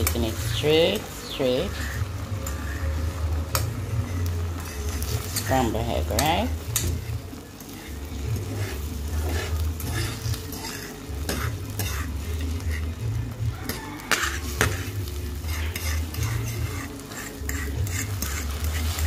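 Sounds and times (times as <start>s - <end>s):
eggs sizzling in a frying pan: 0.0s - 19.0s
fork scraping and tapping a pan: 1.8s - 2.9s, 3.5s - 19.0s.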